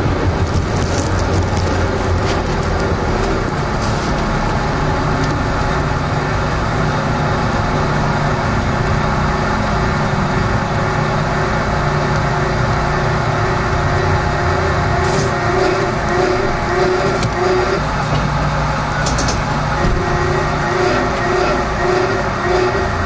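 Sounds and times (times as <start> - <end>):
low motor hum: 0.0 - 23.0
train wheels rumbling on rails: 0.0 - 23.0.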